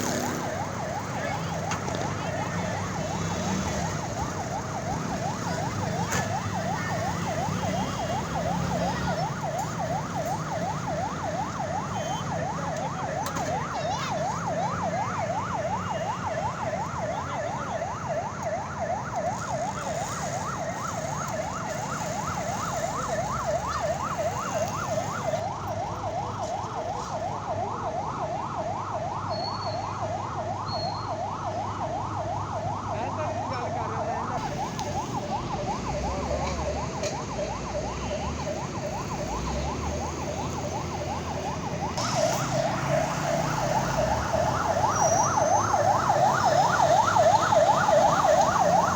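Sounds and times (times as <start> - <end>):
warbling warning siren: 0.0 - 48.9.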